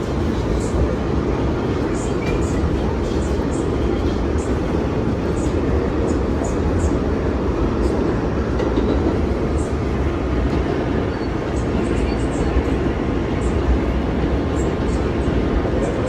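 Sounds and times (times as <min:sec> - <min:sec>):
subway wheels rumbling on rails: 0:00.0 - 0:16.0.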